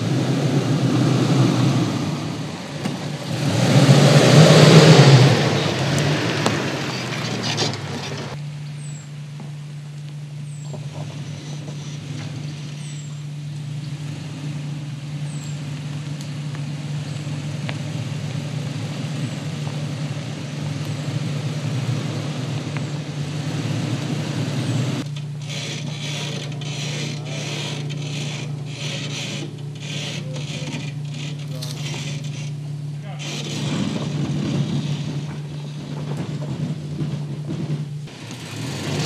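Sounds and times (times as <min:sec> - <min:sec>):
dirt crackling under tyres: 0:00.0 - 0:39.0
truck engine running low speed: 0:00.0 - 0:39.0.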